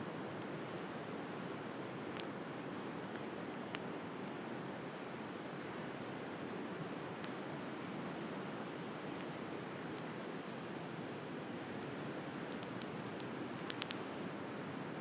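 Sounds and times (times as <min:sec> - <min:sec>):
bonfire crackling and popping: 0:00.1 - 0:15.0.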